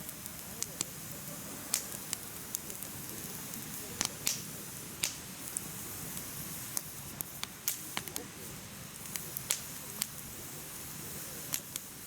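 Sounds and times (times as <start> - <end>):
fire crackles and pops: 0.0 - 12.0
low rush of flame: 0.0 - 12.0.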